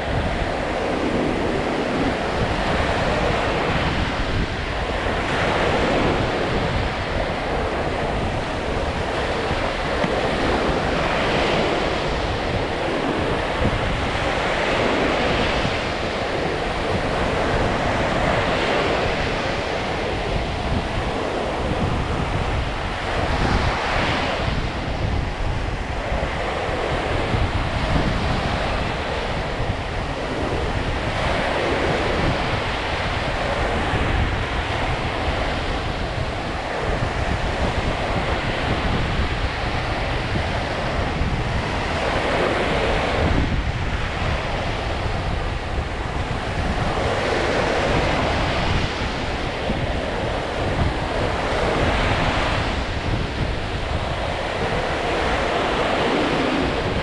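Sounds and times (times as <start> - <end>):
waves washing onto shore: 0.0 - 57.0
wind buffeting microphone: 0.0 - 57.0.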